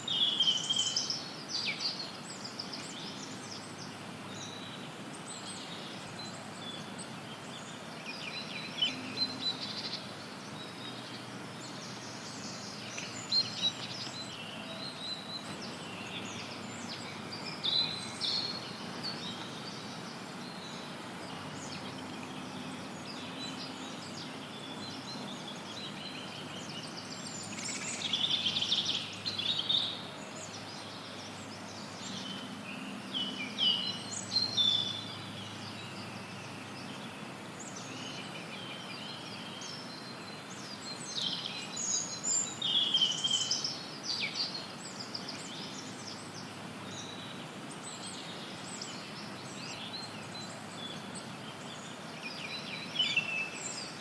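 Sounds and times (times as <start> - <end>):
forest birds singing and chirping: 0.0 - 54.0
steady white noise hiss: 0.0 - 54.0.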